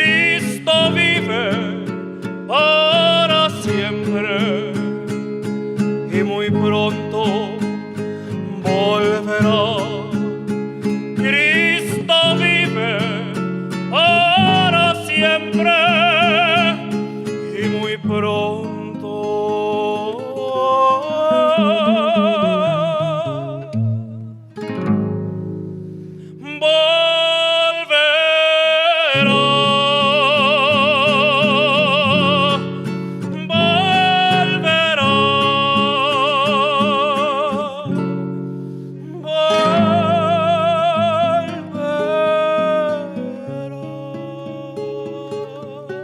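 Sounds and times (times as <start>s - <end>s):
person singing a hymn: 0.0s - 1.9s, 2.5s - 4.8s, 6.1s - 10.3s, 11.2s - 24.2s, 26.4s - 38.0s, 39.1s - 46.0s
plucked acoustic guitar: 0.0s - 46.0s.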